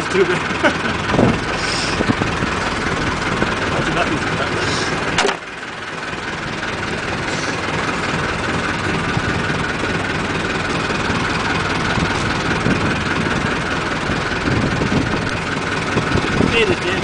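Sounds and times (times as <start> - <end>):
boat engine idling with whine: 0.0 - 17.0.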